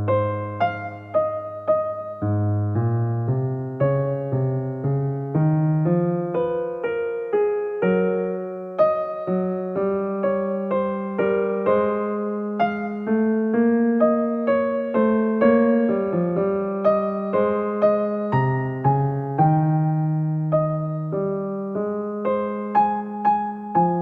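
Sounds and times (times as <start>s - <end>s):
slow electric piano music: 0.0s - 24.0s.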